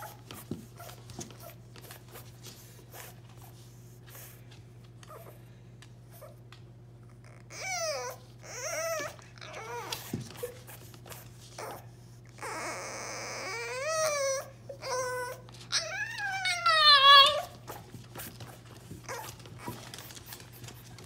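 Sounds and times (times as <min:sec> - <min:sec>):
puppy whining and crying: 0:00.0 - 0:02.3, 0:05.0 - 0:05.4, 0:06.1 - 0:20.9.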